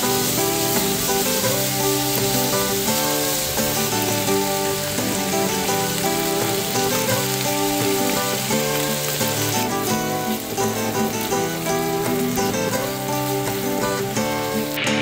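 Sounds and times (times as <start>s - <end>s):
background music: 0.0s - 15.0s
pork sizzling in a frying pan: 0.0s - 15.0s.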